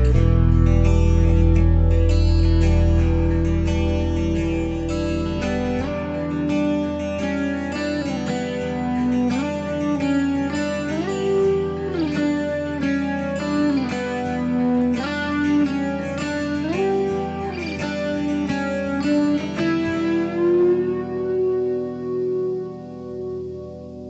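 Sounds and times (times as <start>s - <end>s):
plucked guitar melody: 0.0s - 24.0s.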